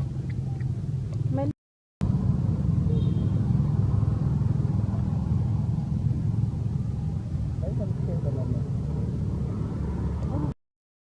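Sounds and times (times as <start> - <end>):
low outdoor rumble: 0.0 - 10.6.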